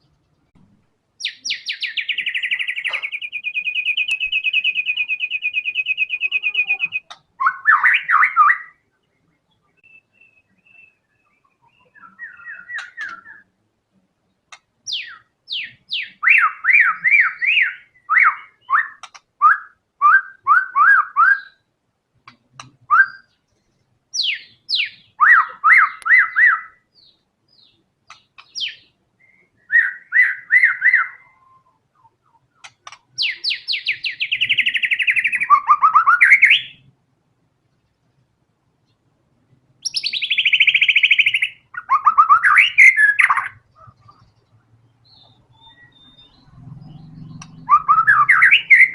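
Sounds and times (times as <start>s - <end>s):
bird singing whistled notes: 1.2s - 13.5s, 14.8s - 21.7s, 22.8s - 31.8s, 32.6s - 36.9s, 39.8s - 44.3s, 44.9s - 48.9s.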